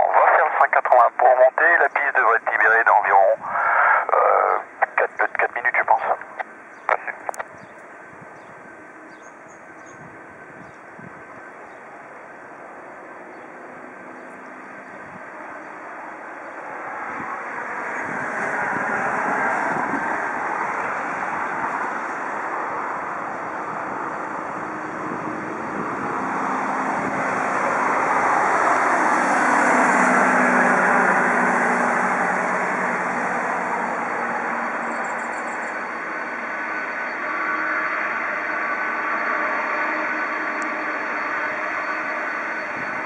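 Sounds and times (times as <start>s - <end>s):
jet engines rushing whine: 0.0s - 43.0s.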